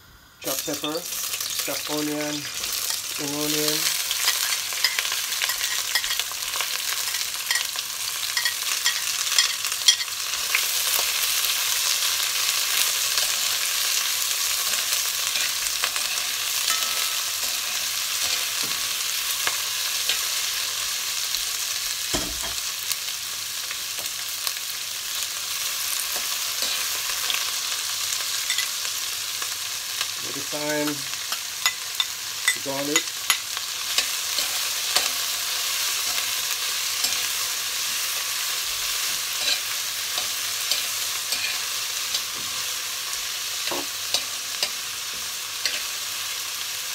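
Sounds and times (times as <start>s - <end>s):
vegetables sizzling in hot oil: 0.0s - 46.9s.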